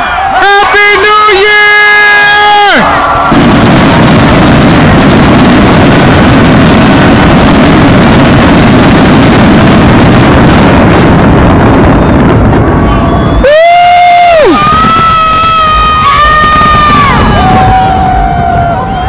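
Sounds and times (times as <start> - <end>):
fireworks fountains roaring: 0.0 - 19.0.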